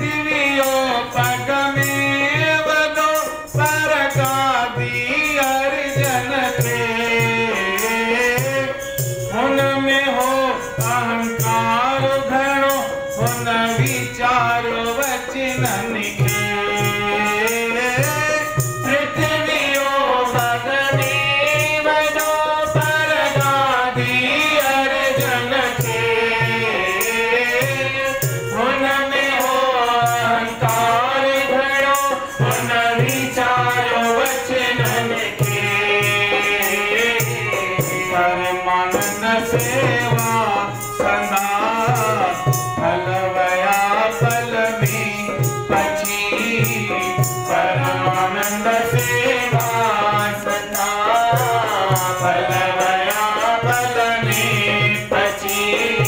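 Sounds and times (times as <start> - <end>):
keyboard accompaniment: 0.0 - 56.0
man singing into a microphone: 0.0 - 56.0
steady percussion beat: 0.0 - 56.0.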